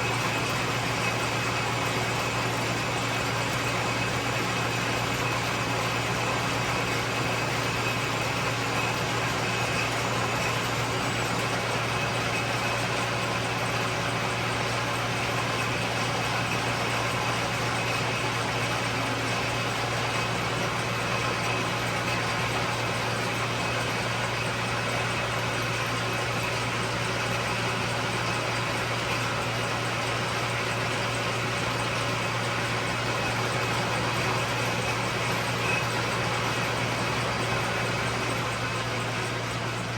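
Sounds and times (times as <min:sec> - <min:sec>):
lathe running: 0:00.0 - 0:39.9.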